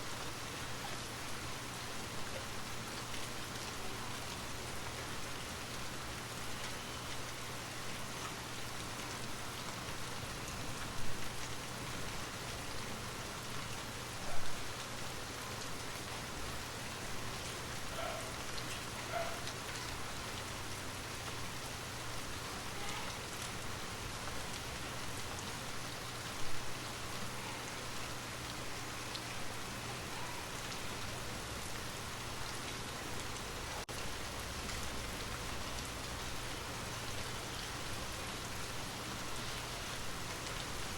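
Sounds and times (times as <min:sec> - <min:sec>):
louder raindrops: 0:00.0 - 0:40.9
rain pattering on a surface: 0:00.0 - 0:40.9.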